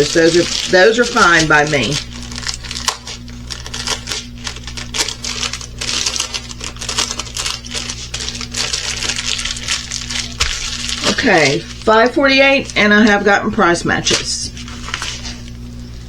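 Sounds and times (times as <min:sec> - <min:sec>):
plastic bags crinkling: 0:00.0 - 0:15.5.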